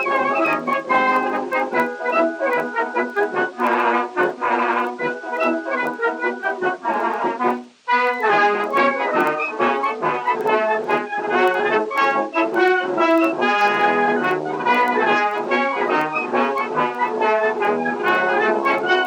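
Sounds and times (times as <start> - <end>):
brass instrumental music: 0.0 - 19.0.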